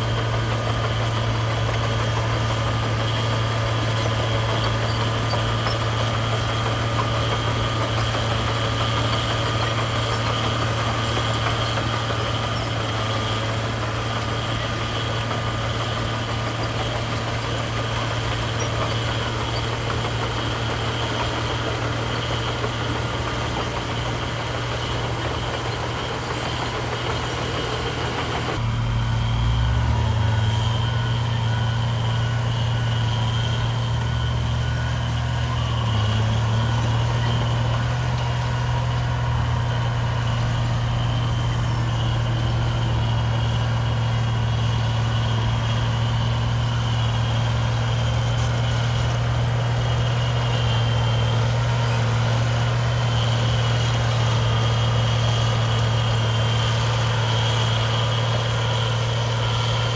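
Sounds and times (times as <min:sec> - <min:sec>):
engine whine: 0:00.0 - 0:59.9
heavy diesel engine running: 0:00.0 - 0:59.9.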